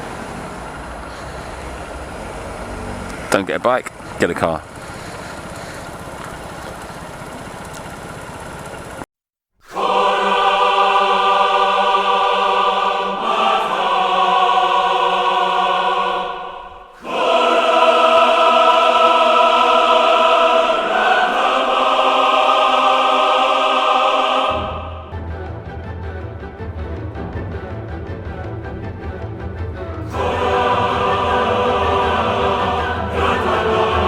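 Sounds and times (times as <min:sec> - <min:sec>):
choir singing held chords: 0:00.0 - 0:03.3, 0:09.6 - 0:34.0.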